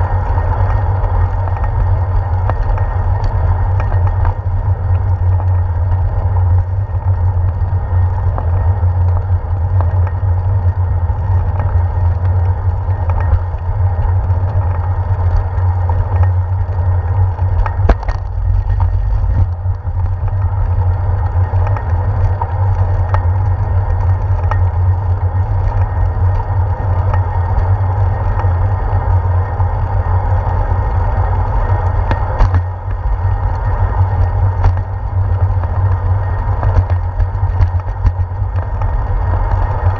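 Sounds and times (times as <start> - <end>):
wheels knocking over bumps: 0.0 - 28.6, 29.2 - 39.9
wind and vibration rumble: 0.0 - 39.9.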